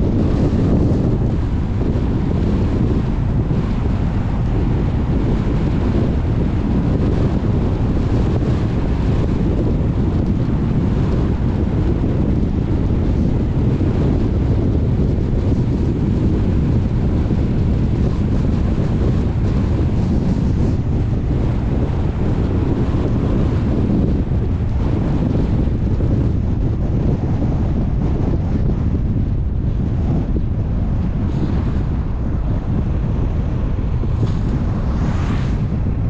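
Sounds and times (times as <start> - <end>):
car road and wind noise: 0.0 - 36.0.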